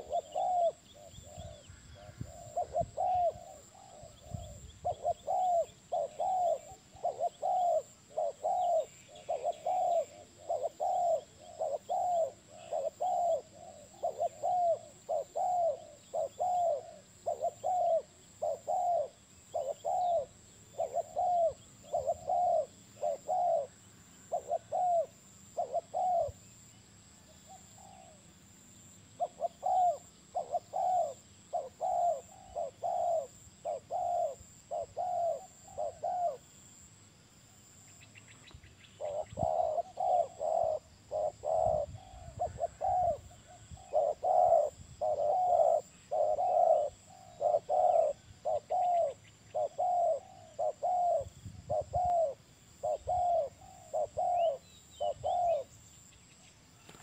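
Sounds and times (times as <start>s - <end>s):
dove cooing: 0.0s - 26.6s, 27.3s - 28.3s, 29.2s - 36.9s, 39.0s - 55.8s.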